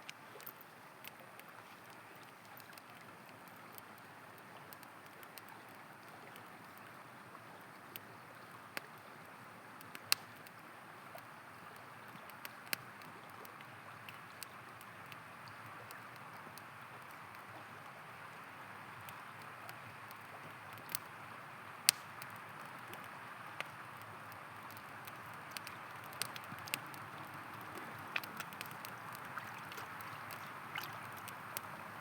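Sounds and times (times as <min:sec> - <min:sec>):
campfire crackling and popping: 0:00.0 - 0:32.0
river flowing: 0:00.0 - 0:32.0.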